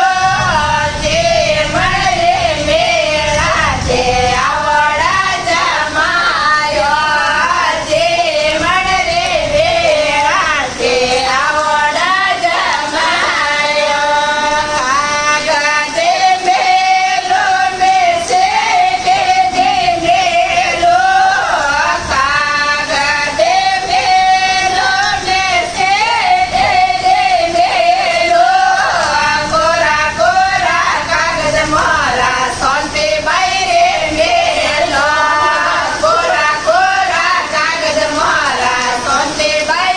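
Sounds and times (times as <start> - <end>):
woman singing folk song: 0.0 - 39.9.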